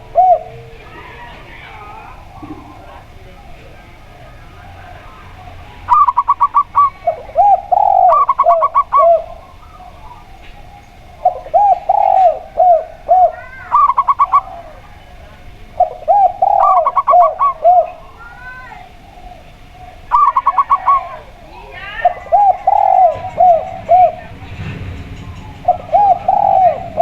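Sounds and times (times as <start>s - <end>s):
slow low dove coo phrases: 0.0s - 27.0s.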